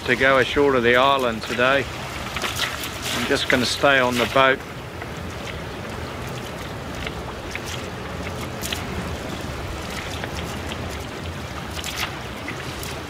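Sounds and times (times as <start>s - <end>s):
strong wind buffeting microphone: 0.0s - 13.0s
water slapping around boat: 0.0s - 13.0s.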